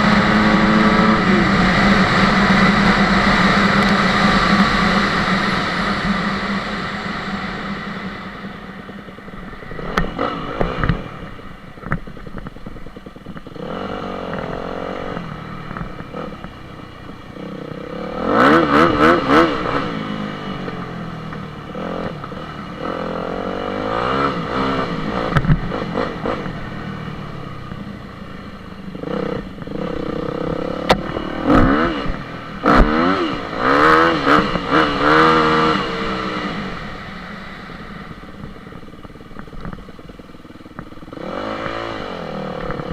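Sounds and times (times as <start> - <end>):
dirt bike engine revving: 0.0 - 12.4, 13.4 - 42.9.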